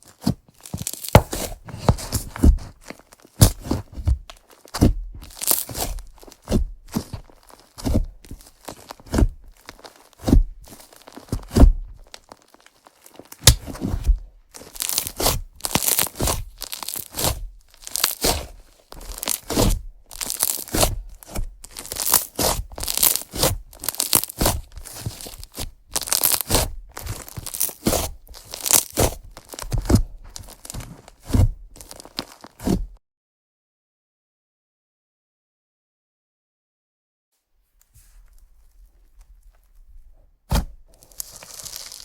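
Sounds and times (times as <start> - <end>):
slime squishing: 0.1 - 32.8, 37.8 - 42.0.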